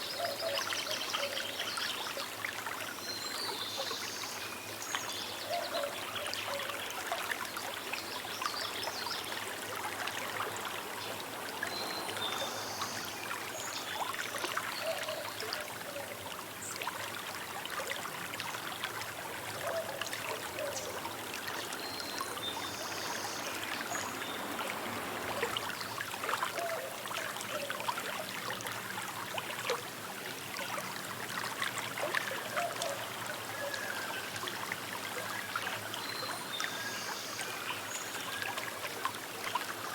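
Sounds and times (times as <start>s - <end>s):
river water flowing and bubbling: 0.0s - 39.9s.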